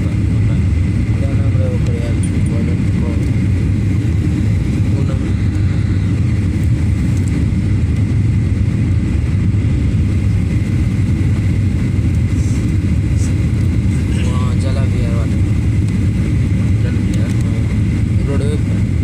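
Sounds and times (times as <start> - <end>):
airplane cabin roar: 0.0 - 19.0
faint steady whine: 0.0 - 19.0.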